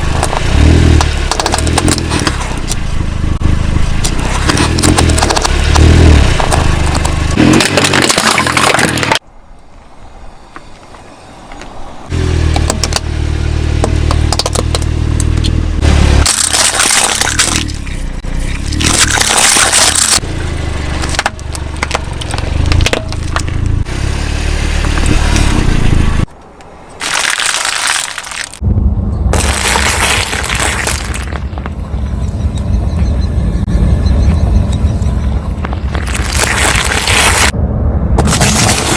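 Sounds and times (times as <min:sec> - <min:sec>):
objects crunching under tyre: 0:00.0 - 0:09.2, 0:10.6 - 0:28.6, 0:29.3 - 0:33.2, 0:34.0 - 0:37.6, 0:38.2 - 0:38.9.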